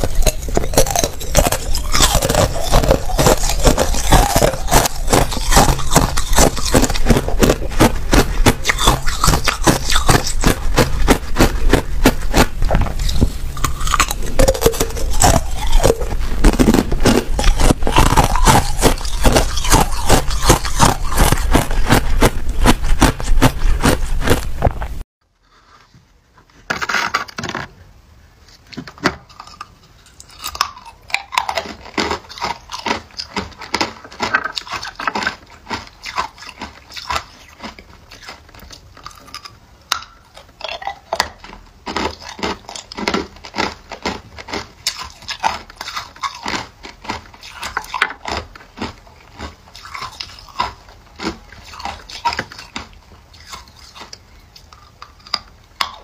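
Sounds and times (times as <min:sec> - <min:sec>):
person crunching ice cubes: 0:00.0 - 0:25.0, 0:29.2 - 0:56.0.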